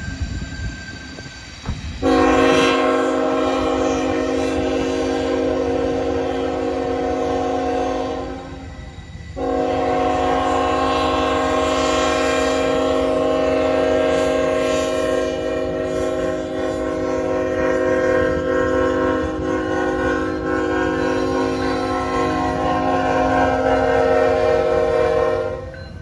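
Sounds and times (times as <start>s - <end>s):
passing train rumble: 0.0s - 26.0s
locomotive air horn chord: 2.0s - 8.7s, 9.4s - 25.8s.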